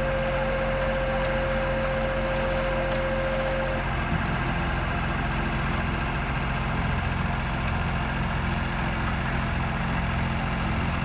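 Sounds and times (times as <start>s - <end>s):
heavy diesel engines running: 0.0s - 11.0s.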